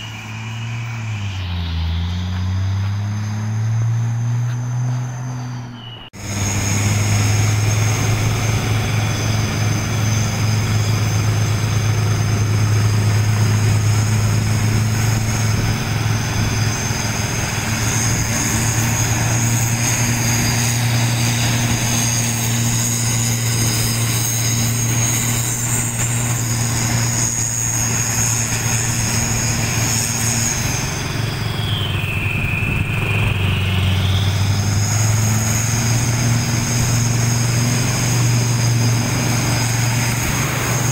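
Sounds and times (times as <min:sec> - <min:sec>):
heavy truck engine droning: 0:00.0 - 0:40.9.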